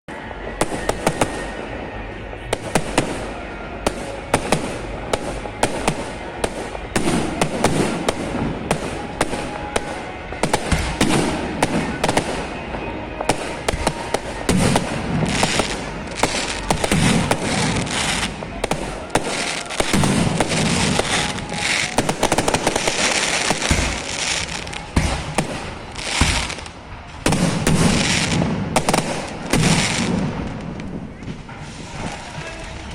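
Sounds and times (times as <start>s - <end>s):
firework bangs and crackles: 0.1s - 32.9s
deep firework booms: 2.5s - 32.4s.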